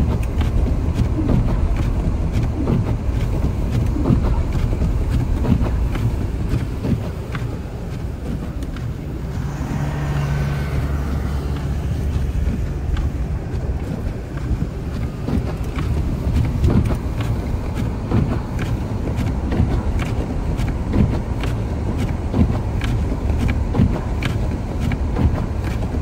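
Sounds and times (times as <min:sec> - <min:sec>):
car road and engine rumble: 0:00.0 - 0:26.0
wind noise: 0:00.0 - 0:26.0.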